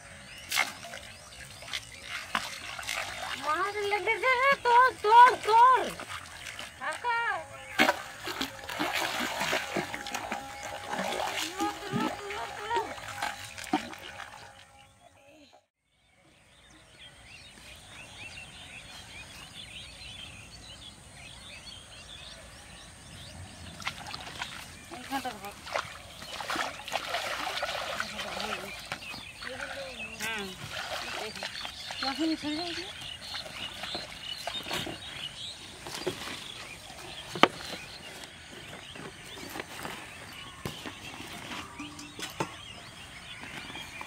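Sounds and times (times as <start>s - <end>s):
small birds chirping: 0.0s - 8.6s, 10.4s - 44.0s.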